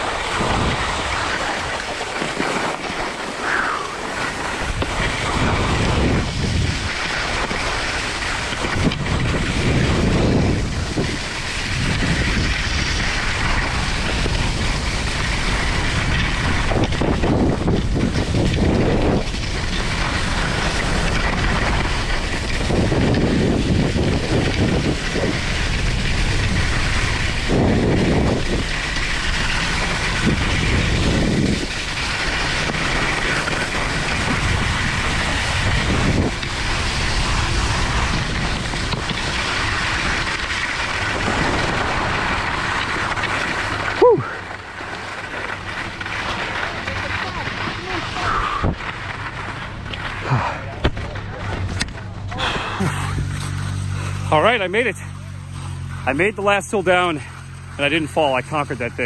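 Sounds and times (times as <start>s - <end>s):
wind rushing over microphone: 0.0s - 55.2s
skis scraping over packed snow: 0.0s - 59.0s.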